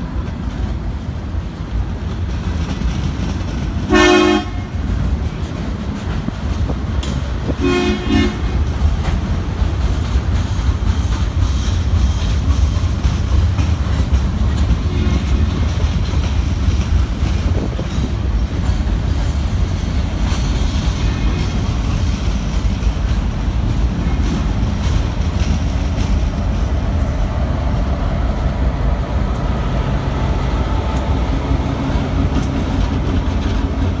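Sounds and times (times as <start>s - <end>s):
wheels clicking over rail joints: 0.0s - 27.9s, 29.0s - 34.0s
freight cars rumbling: 0.0s - 34.0s
train engine hum: 0.0s - 34.0s.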